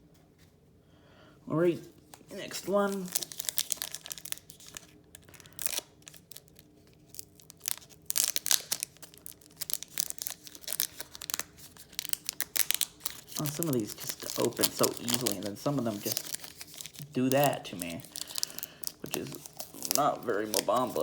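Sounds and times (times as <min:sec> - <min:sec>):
foil wrapper tearing and crinkling: 0:02.1 - 0:21.0.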